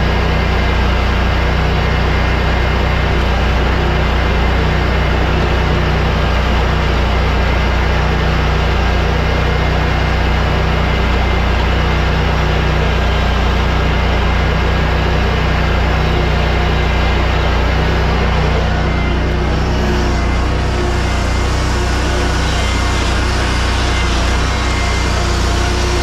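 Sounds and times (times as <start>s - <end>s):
mower engine running: 0.0s - 26.0s.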